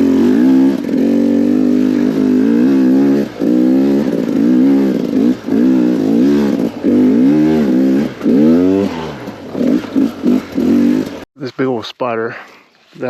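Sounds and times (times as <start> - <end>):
two-stroke motorcycle engine revving: 0.0 - 11.3.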